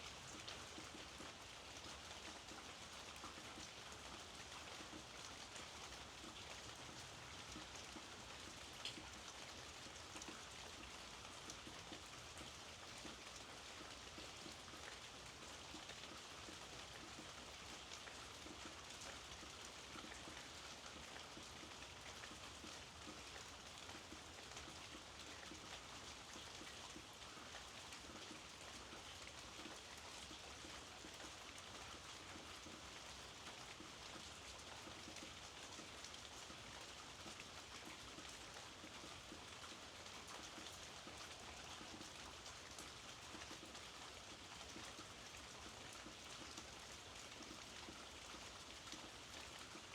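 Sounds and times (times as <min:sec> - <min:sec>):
faint steady rainfall: 0:00.0 - 0:49.9.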